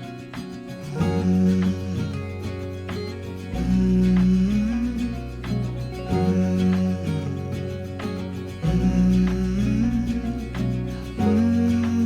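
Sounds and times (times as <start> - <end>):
pop song background music: 0.0 - 12.0.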